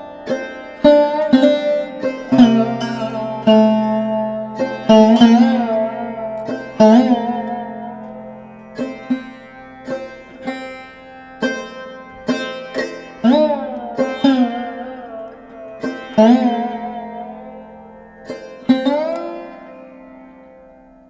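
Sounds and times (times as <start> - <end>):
plucked string instrument: 0.0 - 21.0.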